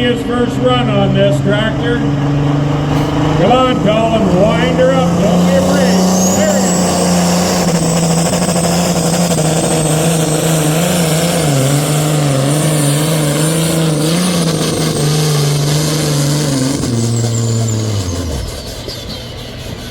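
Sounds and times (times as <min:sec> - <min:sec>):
diesel engine at full throttle: 0:00.0 - 0:19.9
high turbo whistle: 0:02.2 - 0:19.9.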